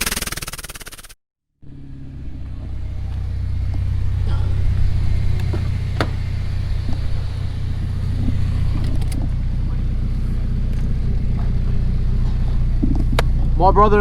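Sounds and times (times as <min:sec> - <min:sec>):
car engine idling: 0:01.6 - 0:14.0.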